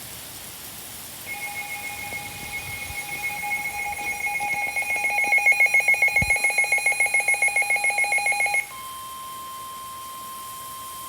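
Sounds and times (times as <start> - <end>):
weather radio alert beeping: 1.3 - 10.4
steady warning alarm tone: 1.3 - 11.0.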